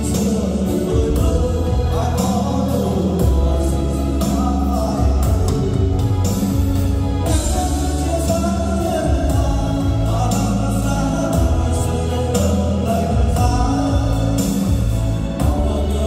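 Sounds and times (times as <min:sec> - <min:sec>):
song with heavy bass: 0:00.0 - 0:16.0.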